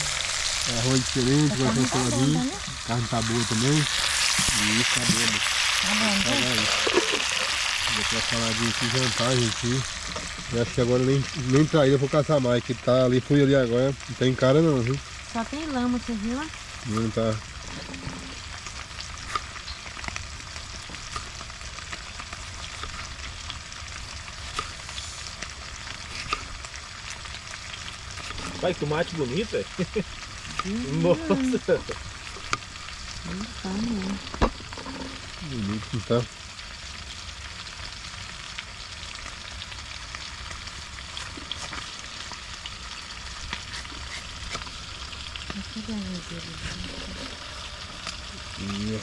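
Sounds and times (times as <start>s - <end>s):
fire pops and crackles: 0.0s - 49.0s
food sizzling over campfire: 0.0s - 49.0s.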